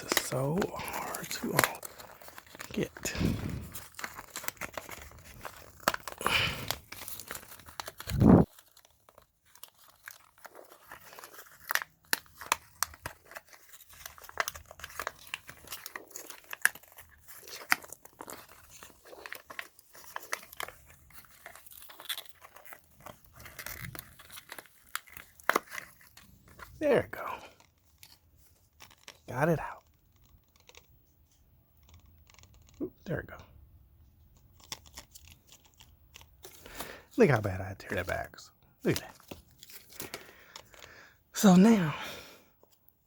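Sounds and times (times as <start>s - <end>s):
plastic packaging crackling: 0.0s - 32.8s, 34.3s - 41.8s.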